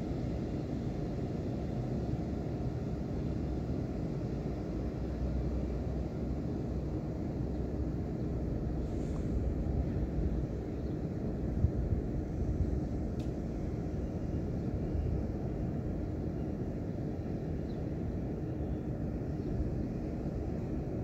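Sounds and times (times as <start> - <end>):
steady low rumbling noise: 0.0 - 21.0.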